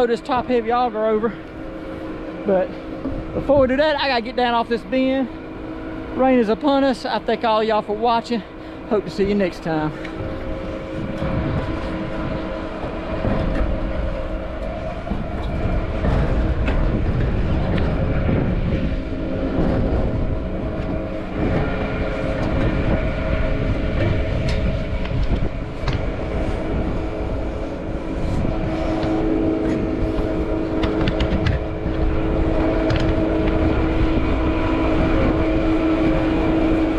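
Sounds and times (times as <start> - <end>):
low rumble: 0.0 - 36.9
machine droning hum: 0.0 - 36.9.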